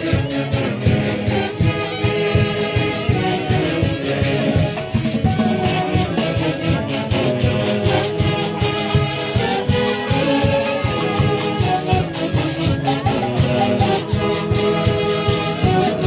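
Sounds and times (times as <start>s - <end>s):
festive dance music band: 0.0s - 16.0s.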